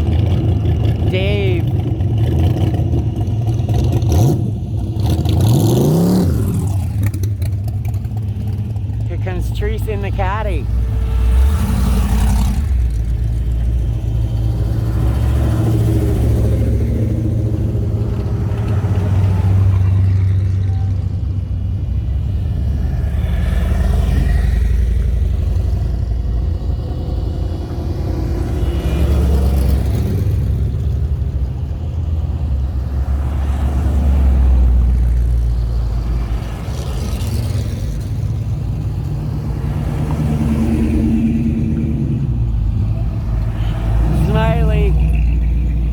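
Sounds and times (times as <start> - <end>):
car engine passing by: 5.0 - 45.9.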